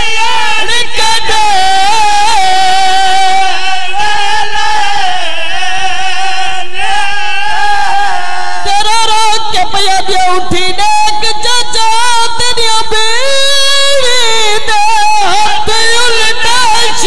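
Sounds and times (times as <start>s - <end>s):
man singing a lament: 0.0s - 17.0s.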